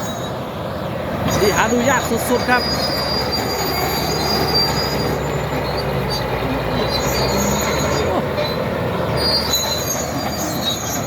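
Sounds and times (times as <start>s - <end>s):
bulldozer diesel engine running: 0.0s - 11.0s
steel tracks squealing: 0.0s - 11.0s.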